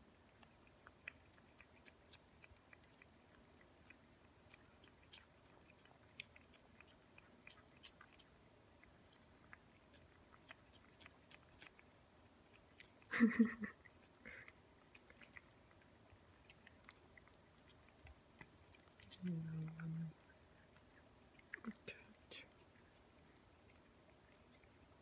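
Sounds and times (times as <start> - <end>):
cats licking wet tongue smacks: 0.2 - 25.0.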